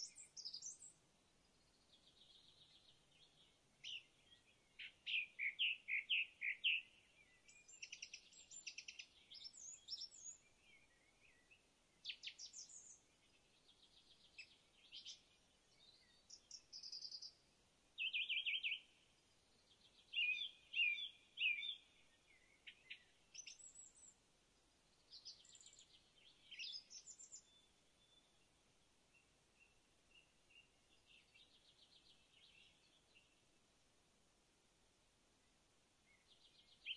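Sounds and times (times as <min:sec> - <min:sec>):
songbirds chirping and trilling: 0:00.0 - 0:36.9.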